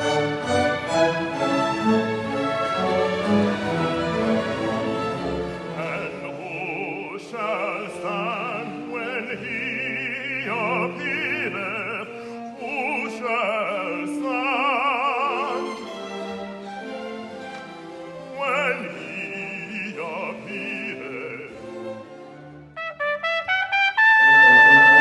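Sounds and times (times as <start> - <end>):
operatic singing: 0.0 - 25.0
orchestra playing: 0.0 - 25.0.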